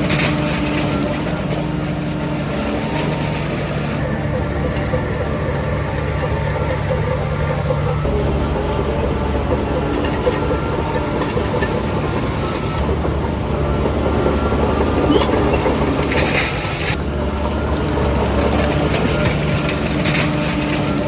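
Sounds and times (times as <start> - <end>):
diesel engine running: 0.0 - 21.0
steel tracks clanking: 0.0 - 21.0.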